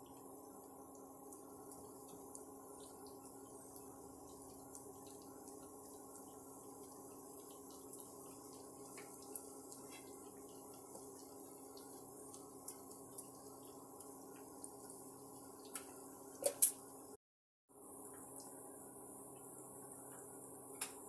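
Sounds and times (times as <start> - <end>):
batter sizzling in a pan: 0.0 - 17.2, 17.8 - 21.0
induction cooktop hum: 0.0 - 21.0.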